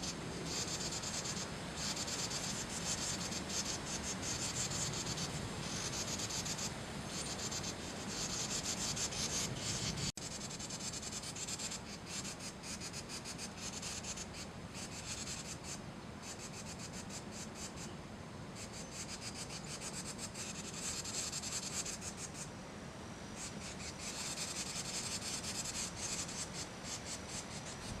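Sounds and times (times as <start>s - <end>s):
wren alarm chatter: 0.0s - 17.9s, 23.3s - 28.0s.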